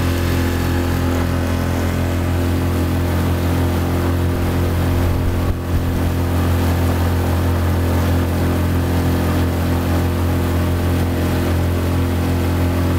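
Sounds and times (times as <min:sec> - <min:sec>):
water rushing along hull: 0:00.0 - 0:12.9.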